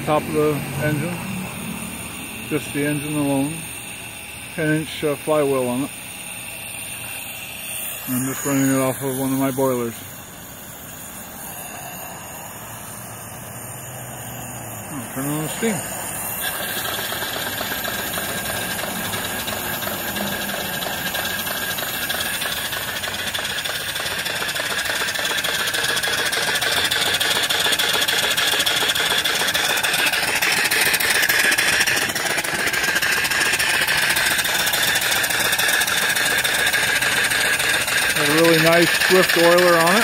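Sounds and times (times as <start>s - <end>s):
steady steam hiss: 0.0s - 40.0s
steam engine exhaust puffs: 0.0s - 40.0s.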